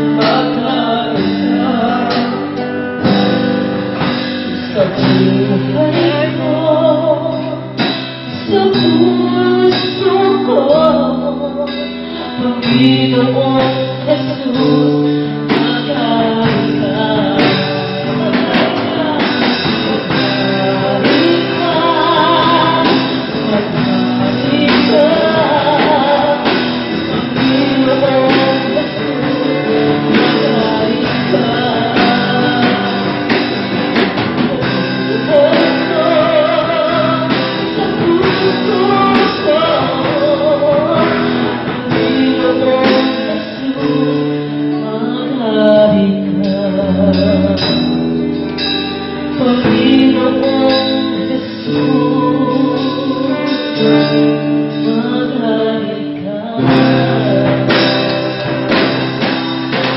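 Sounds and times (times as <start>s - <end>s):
amplified instrumental accompaniment: 0.0s - 59.9s
woman singing into a microphone: 0.0s - 59.9s.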